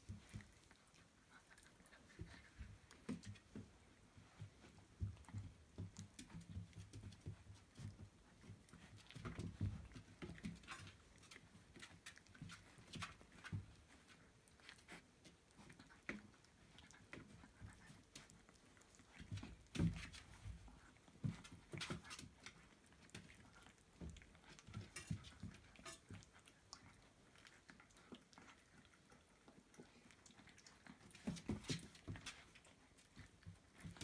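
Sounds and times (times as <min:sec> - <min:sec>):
puppies licking and suckling: 0:00.0 - 0:34.0.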